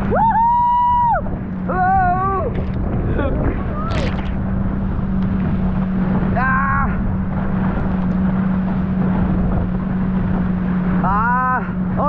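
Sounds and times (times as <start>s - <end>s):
water rushing: 0.0s - 12.0s
watercraft engine running: 0.0s - 12.0s
wind: 0.0s - 12.0s.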